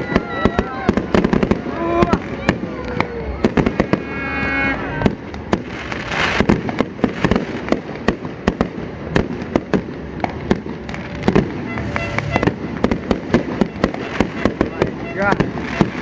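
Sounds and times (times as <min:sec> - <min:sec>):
fireworks bangs and pops: 0:00.0 - 0:16.0
fireworks crackling: 0:00.0 - 0:16.0.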